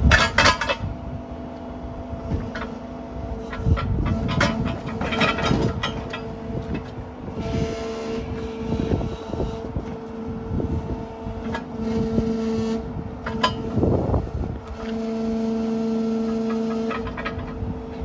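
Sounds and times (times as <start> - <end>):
hydraulic pump hum: 0.0 - 18.0.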